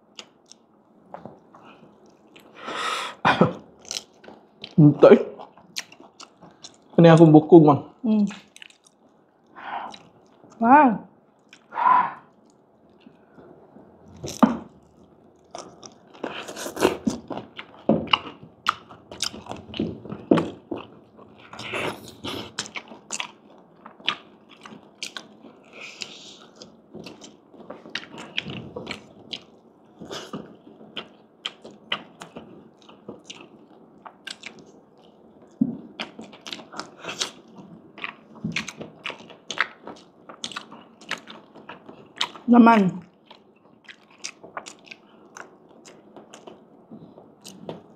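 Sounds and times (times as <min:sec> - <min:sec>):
crunchy chewing: 0:03.7 - 0:04.8, 0:05.4 - 0:07.0, 0:08.3 - 0:10.6, 0:11.4 - 0:47.9.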